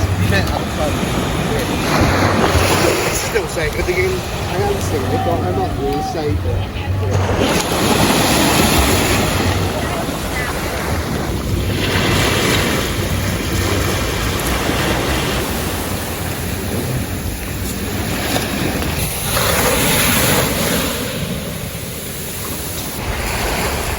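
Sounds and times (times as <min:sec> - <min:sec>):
ocean surf washing onto beach: 0:00.0 - 0:23.9
wind buffeting microphone: 0:00.0 - 0:23.9.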